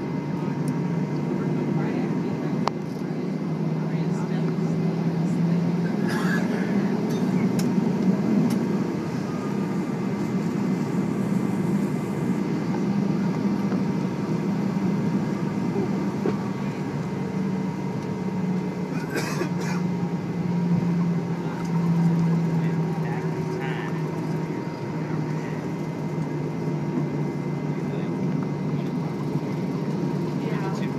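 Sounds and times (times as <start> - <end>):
airplane cabin engine hum: 0.0 - 30.9.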